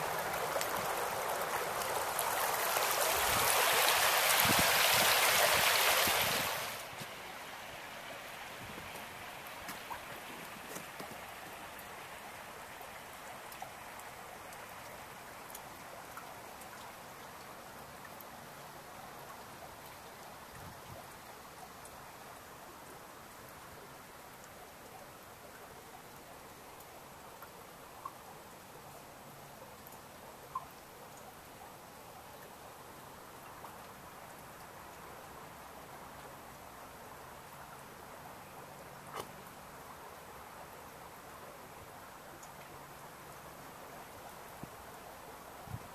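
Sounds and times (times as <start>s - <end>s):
creek water running: 0.0s - 45.9s
small drips from icicles: 8.6s - 45.9s.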